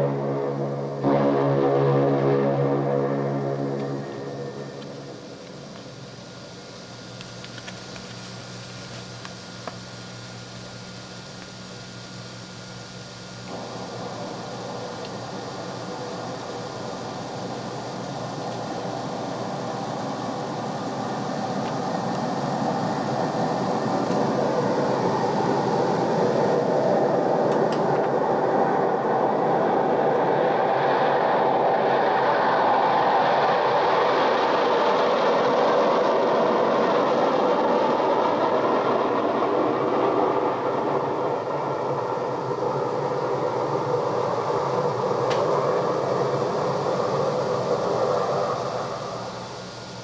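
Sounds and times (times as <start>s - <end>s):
steady rushing rumble: 0.0s - 6.4s, 13.5s - 49.3s
tape hiss: 0.0s - 50.0s.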